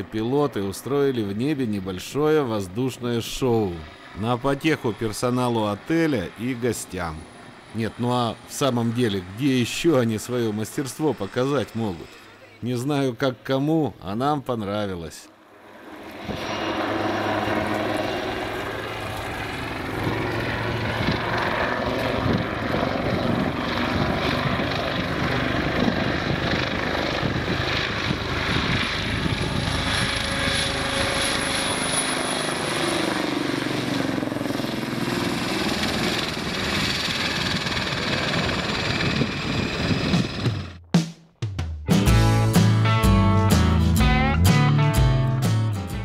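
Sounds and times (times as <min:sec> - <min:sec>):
helicopter rotor chopping: 0:00.0 - 0:13.8, 0:15.4 - 0:41.0.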